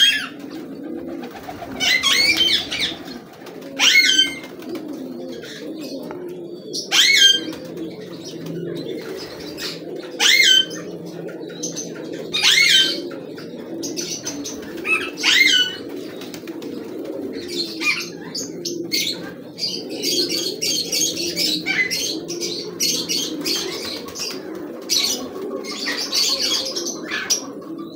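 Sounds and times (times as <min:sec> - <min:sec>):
pigeons cooing: 0:00.0 - 0:27.9.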